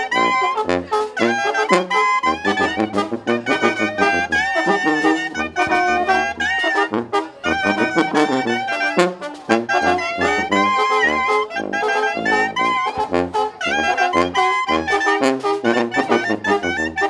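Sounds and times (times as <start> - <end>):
low brass bass line: 0.0 - 17.0
trumpets trombones and saxophones: 0.0 - 17.0.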